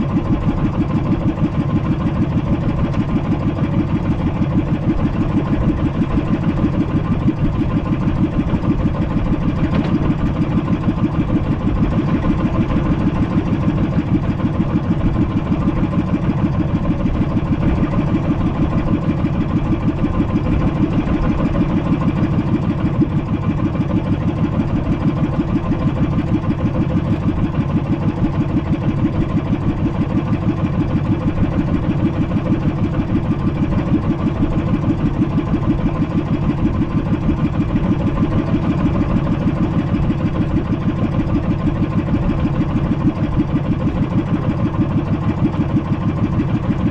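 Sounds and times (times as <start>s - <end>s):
boat engine chugging: 0.0s - 46.9s.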